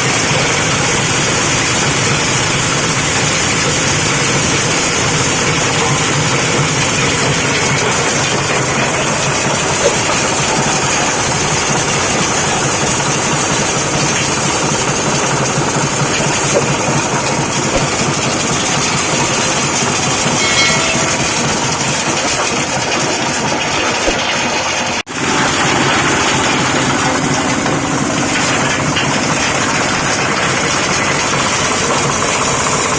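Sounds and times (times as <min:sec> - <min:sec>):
diesel engine running grinder: 0:00.0 - 0:32.9.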